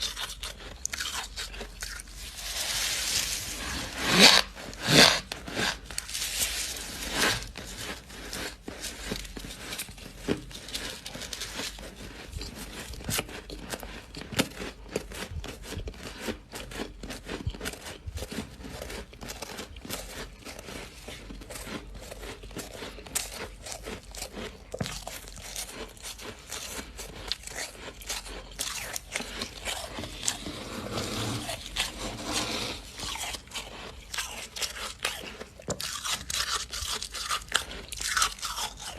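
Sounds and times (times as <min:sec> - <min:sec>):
frost being chewed crunching: 0:00.0 - 0:38.9.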